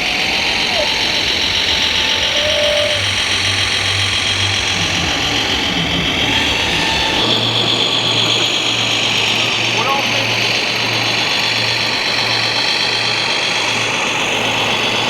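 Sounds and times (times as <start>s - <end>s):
high whirring: 0.0s - 15.0s
low engine-like hum: 0.0s - 15.0s.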